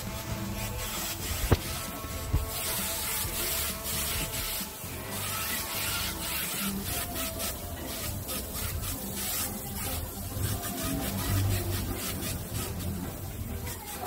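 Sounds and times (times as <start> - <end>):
paint spray gun hissing bursts: 0.0 - 14.0.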